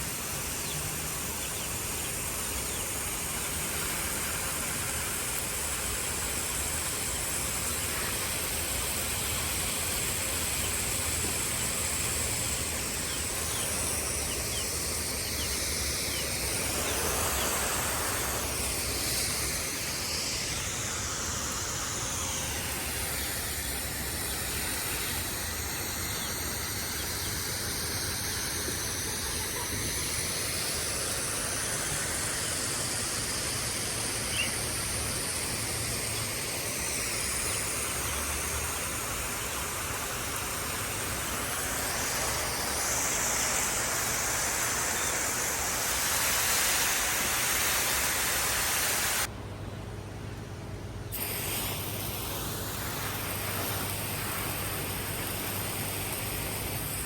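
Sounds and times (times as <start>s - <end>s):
water spraying from garden hose: 0.0s - 49.3s, 51.1s - 57.0s.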